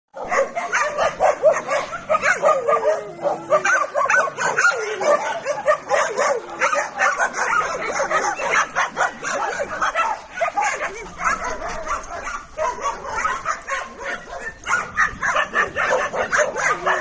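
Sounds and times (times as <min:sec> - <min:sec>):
dogs barking and yipping: 0:00.2 - 0:17.0.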